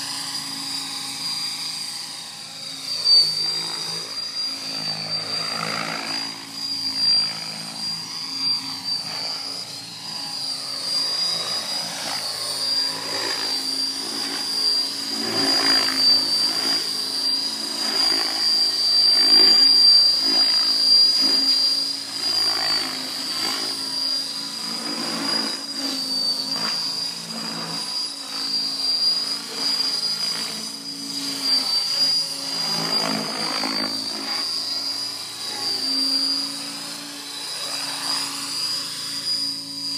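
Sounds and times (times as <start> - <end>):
rc helicopter high whine: 0.0 - 39.9
rotor blade noise: 0.0 - 39.9.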